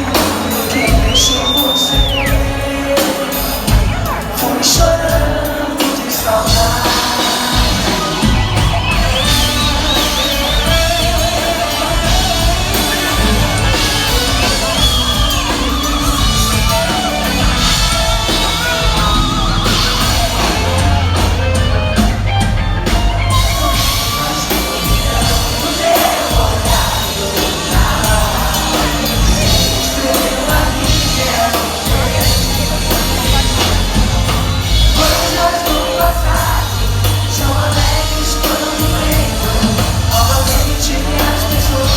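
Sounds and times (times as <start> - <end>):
audience shouting: 0.0 - 41.9
lead singer: 0.0 - 41.9
pop-rock band playing live: 0.0 - 41.9.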